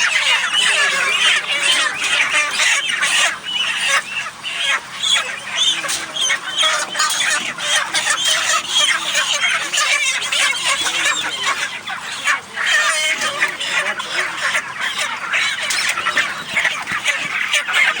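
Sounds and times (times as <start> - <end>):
chickens cheeping and clucking: 0.0 - 18.0.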